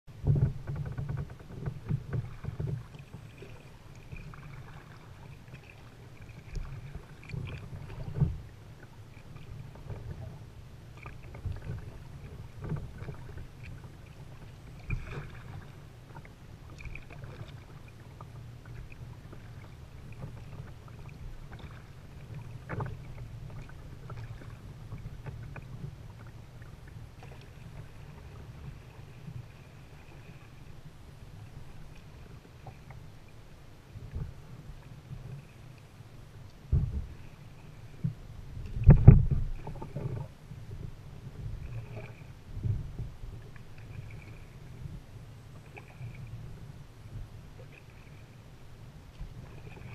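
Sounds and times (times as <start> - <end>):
paddle splashes: 0.1 - 49.9
water lapping against hull: 0.1 - 49.9.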